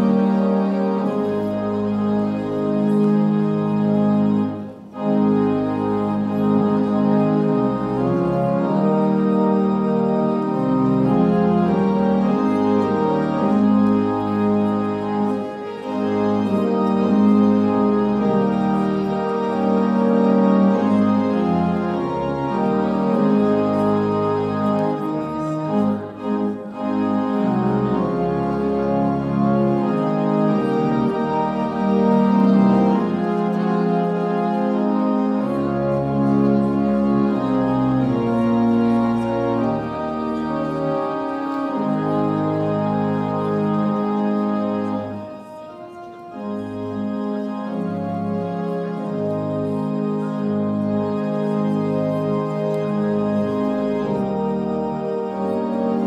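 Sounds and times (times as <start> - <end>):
organ chords: 0.0 - 56.0.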